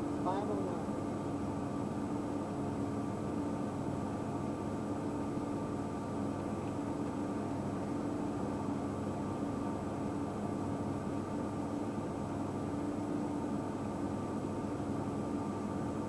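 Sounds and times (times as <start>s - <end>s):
mechanical hum with held tones: 0.0s - 16.0s.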